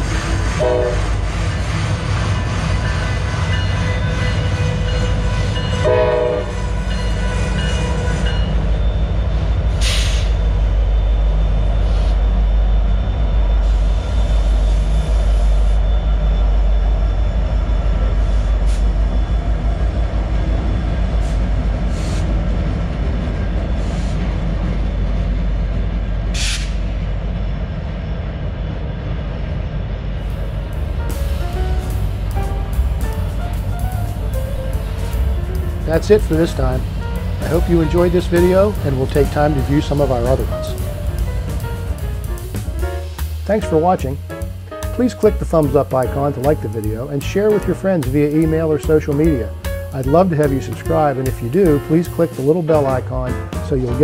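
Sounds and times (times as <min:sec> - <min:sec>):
diesel locomotives passing: 0:00.0 - 0:54.0
freight train rumbling past: 0:00.0 - 0:54.0.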